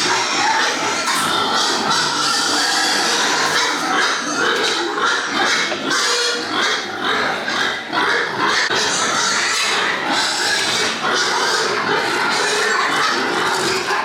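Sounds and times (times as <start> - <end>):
pigs grunting and squealing: 0.0 - 14.0.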